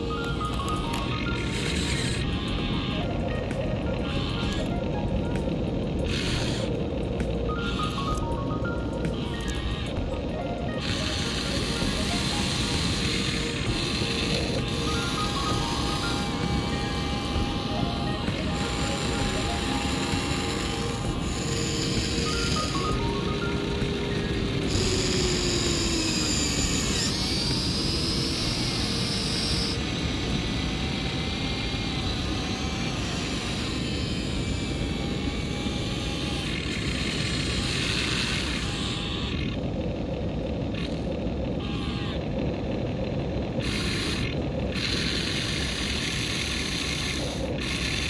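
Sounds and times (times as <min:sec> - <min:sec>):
electric motors whining: 0:00.0 - 0:48.0
wind: 0:00.0 - 0:48.0.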